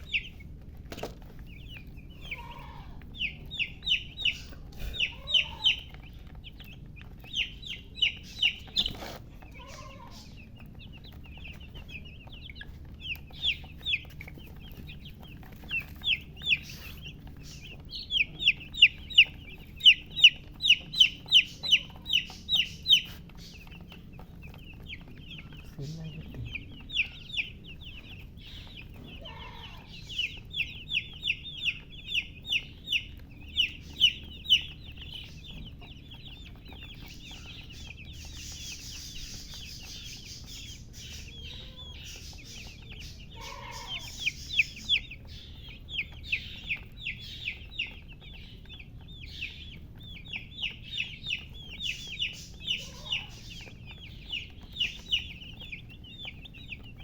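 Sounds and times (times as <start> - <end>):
baby chicks peeping: 0.0 - 57.0
hen clucking: 0.0 - 57.0.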